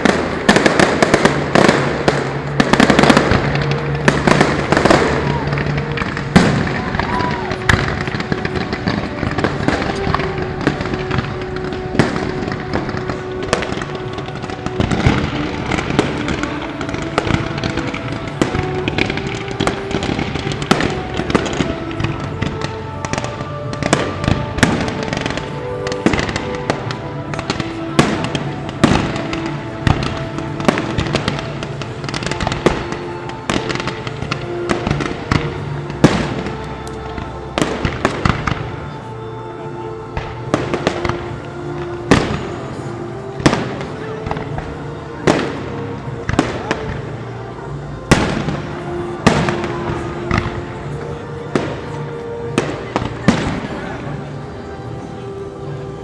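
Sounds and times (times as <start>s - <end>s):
fireworks bangs and crackles: 0.0s - 56.0s
music playing: 0.0s - 56.0s.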